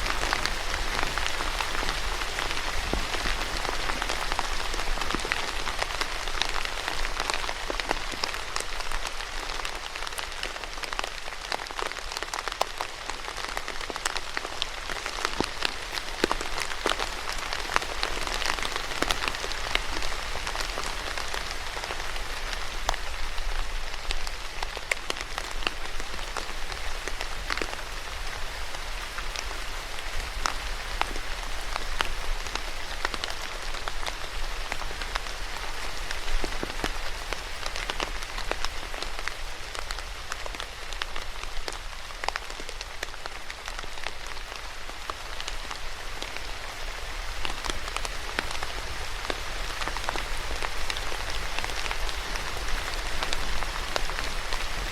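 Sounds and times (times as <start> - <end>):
rain hiss: 0.0 - 54.9
rain pattering on a surface: 0.0 - 54.9.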